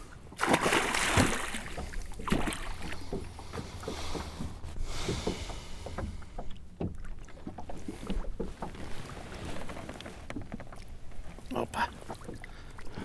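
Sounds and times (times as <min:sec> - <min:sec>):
water slapping against boat: 0:00.0 - 0:13.0.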